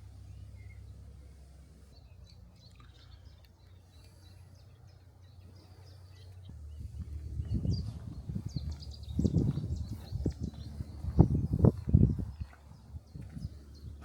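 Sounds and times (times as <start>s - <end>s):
irregular low rumbling: 0.0s - 14.0s
low steady hum: 0.0s - 14.0s
small birds chirping: 0.0s - 14.0s.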